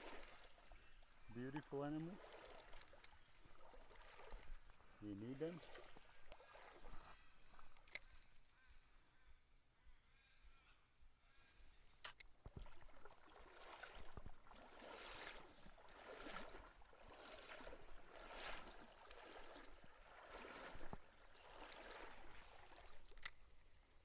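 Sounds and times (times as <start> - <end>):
stream water splashing: 0.0 - 8.5, 12.0 - 24.0.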